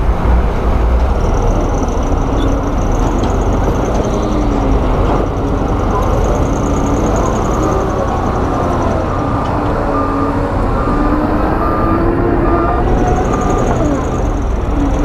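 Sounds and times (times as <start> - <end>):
heavy diesel engine rumble: 0.0 - 15.0.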